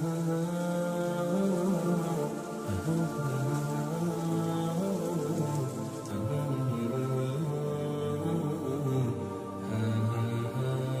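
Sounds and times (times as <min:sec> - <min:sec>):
voices singing held notes: 0:00.0 - 0:11.0.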